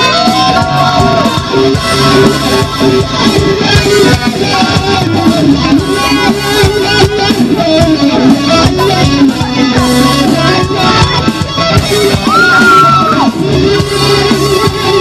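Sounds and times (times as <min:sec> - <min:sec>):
bent gliding guitar notes: 0:00.0 - 0:15.0
live band playing: 0:00.0 - 0:15.0.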